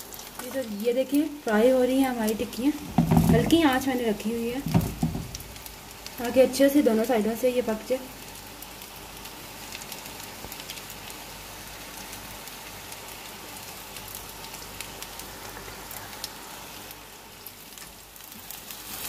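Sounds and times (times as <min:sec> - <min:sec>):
patties sizzling with crackles: 0:00.0 - 0:19.0.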